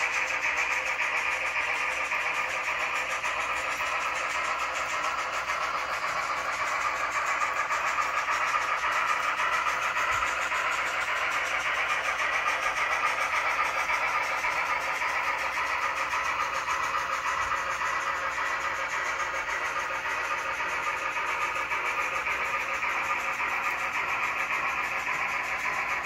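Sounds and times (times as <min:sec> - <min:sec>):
model train running on track: 0:00.0 - 0:26.0.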